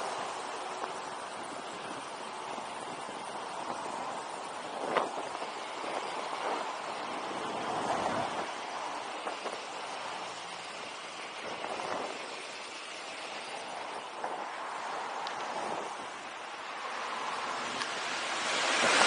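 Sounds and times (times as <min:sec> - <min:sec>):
bike tyres rolling on concrete: 0:00.0 - 0:19.0
passing traffic: 0:00.0 - 0:19.0
wind: 0:00.0 - 0:19.0.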